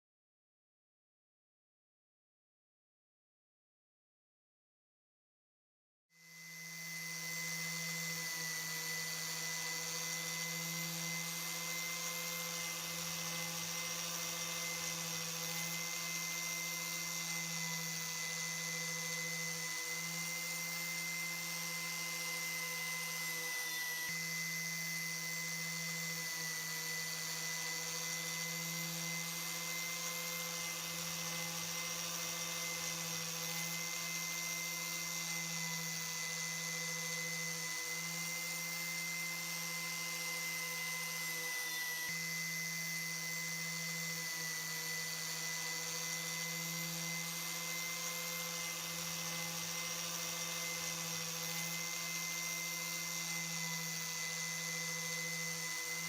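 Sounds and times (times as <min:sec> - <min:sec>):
electric power tool whining: 0:06.2 - 0:56.0.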